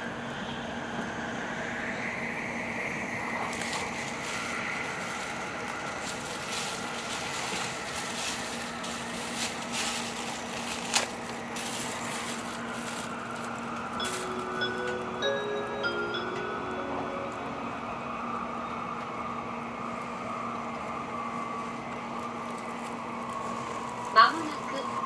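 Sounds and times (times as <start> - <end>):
train rumble inside car: 0.0 - 25.0.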